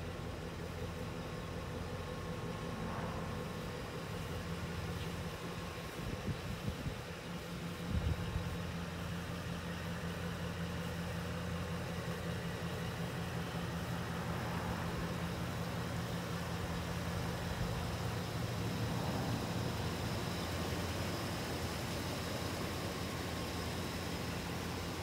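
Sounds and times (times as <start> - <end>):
pickup engine idling: 0.0 - 25.0.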